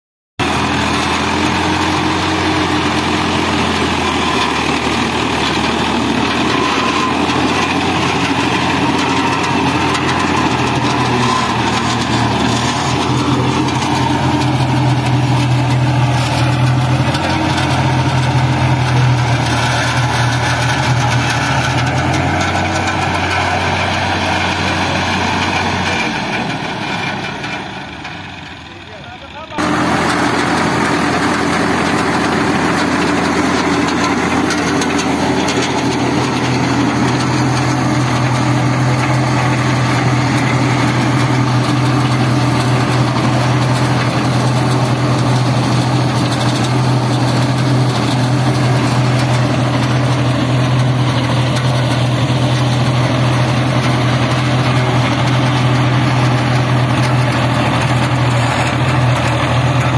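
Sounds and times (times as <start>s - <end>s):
tractor diesel engine running: 0.4s - 59.9s.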